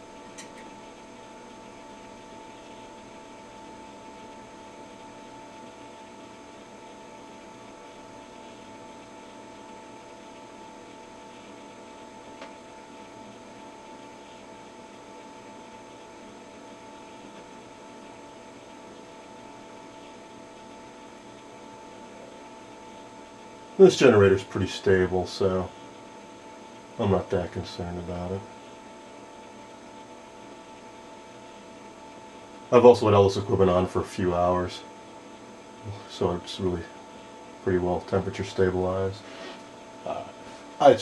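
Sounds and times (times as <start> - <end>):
electrical hum with high tone: 0.0 - 41.0.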